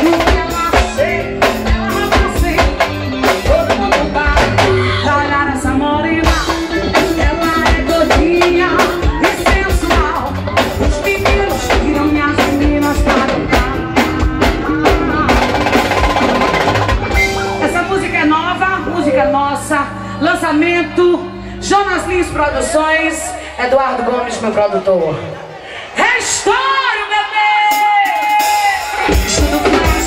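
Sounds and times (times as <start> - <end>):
instrumental band music: 0.0 - 24.8, 27.6 - 30.0.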